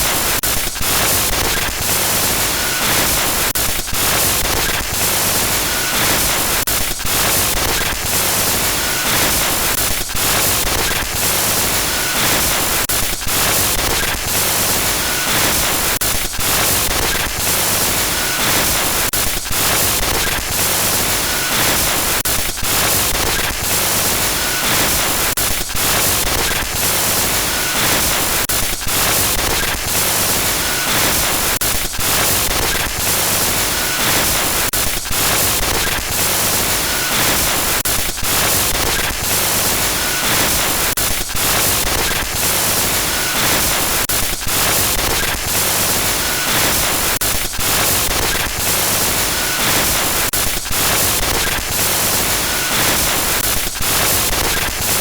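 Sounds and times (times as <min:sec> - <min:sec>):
harsh static hiss: 0:00.0 - 0:55.0.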